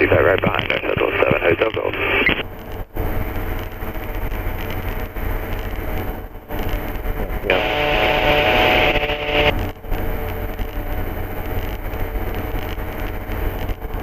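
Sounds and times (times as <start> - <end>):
aircraft engine and propeller: 0.0 - 14.0
loud hiss with steady tones: 0.0 - 14.0.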